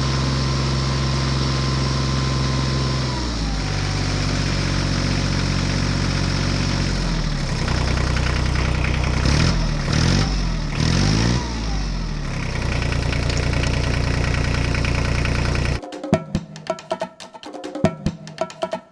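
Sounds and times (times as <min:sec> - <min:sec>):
vehicle engine running and revving: 0:00.0 - 0:15.8.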